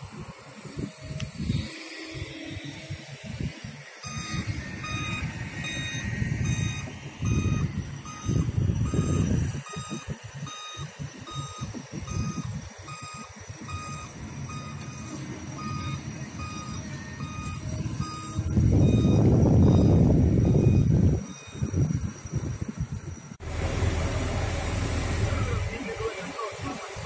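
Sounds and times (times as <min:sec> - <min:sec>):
travel alarm beeping: 0:00.6 - 0:27.0
excavator diesel engine rumbling: 0:02.2 - 0:21.8, 0:22.8 - 0:27.0.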